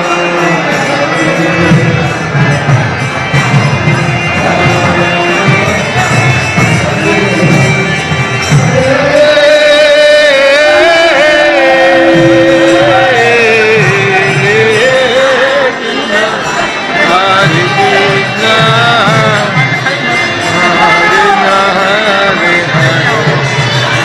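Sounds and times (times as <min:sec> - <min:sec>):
instrumental accompaniment: 0:00.0 - 0:24.0
person singing devotional song: 0:00.0 - 0:24.0.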